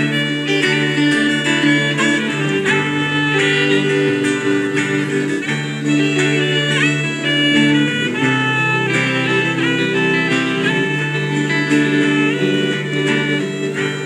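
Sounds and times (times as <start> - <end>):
guitar chords: 0.0 - 14.0
saxophone melody: 0.0 - 14.0.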